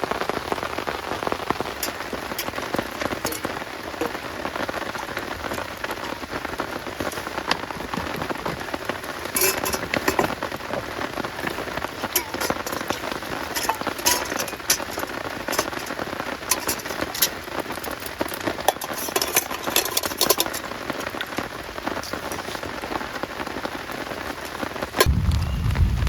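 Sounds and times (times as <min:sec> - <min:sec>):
heavy rain falling: 0:00.0 - 0:26.0
raindrops striking close by: 0:00.0 - 0:26.0.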